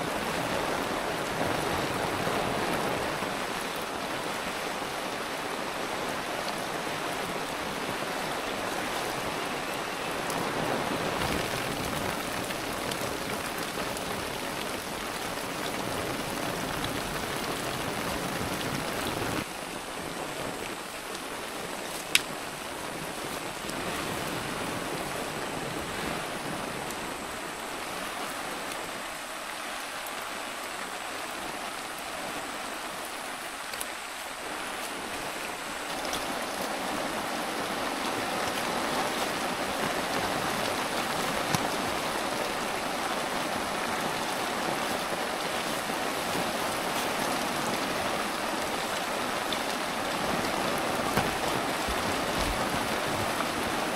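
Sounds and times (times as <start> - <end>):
rain hissing: 0.0 - 53.9.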